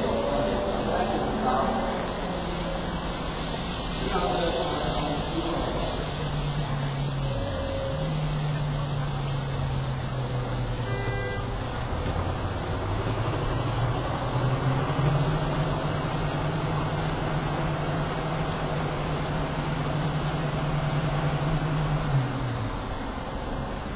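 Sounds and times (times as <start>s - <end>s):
pulling tractor engine running: 0.0s - 23.9s.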